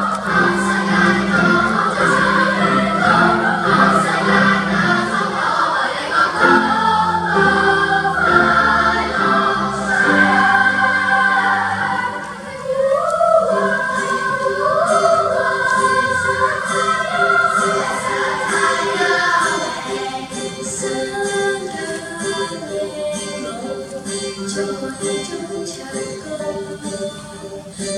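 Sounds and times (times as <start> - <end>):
children's choir singing: 0.0 - 27.9.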